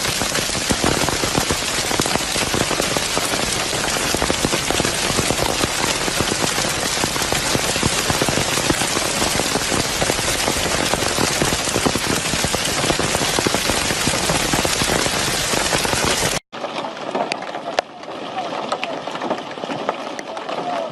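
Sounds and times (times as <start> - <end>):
heavy rain pelting a hard surface: 0.0 - 20.9.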